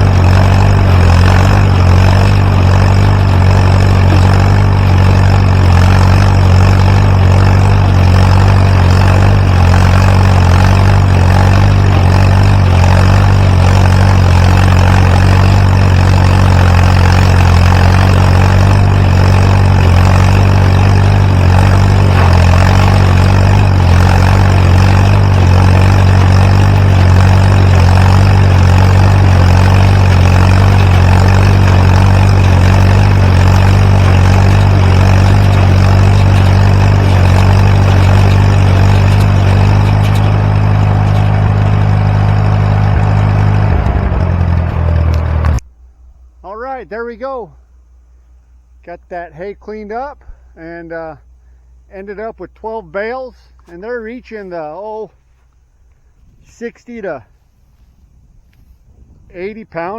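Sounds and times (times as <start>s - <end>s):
hay baler baling: 0.0s - 45.6s, 46.4s - 47.7s, 48.8s - 59.9s
tractor engine running: 0.0s - 59.9s.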